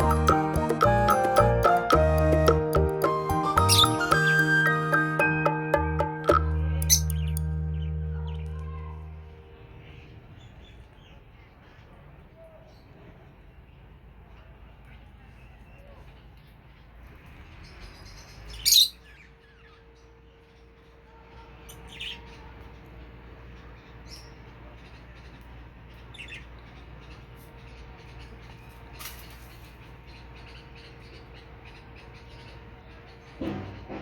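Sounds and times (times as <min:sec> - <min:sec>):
lovebirds chirping and squawking: 0:00.0 - 0:05.5, 0:06.4 - 0:12.0, 0:15.4 - 0:34.0.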